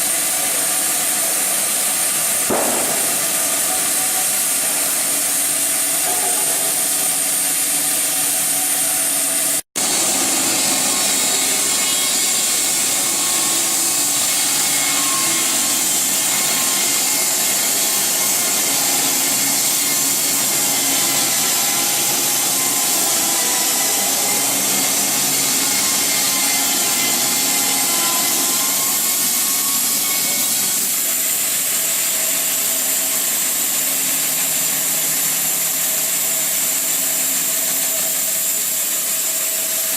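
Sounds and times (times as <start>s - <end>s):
bandsaw mill cutting log: 0.0s - 39.9s.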